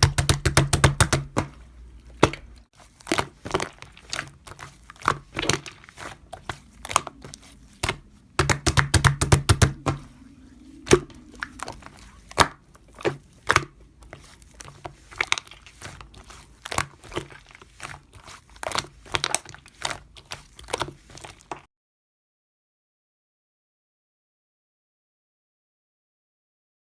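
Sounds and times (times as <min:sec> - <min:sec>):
slime squished by hand: 0:00.0 - 0:21.7.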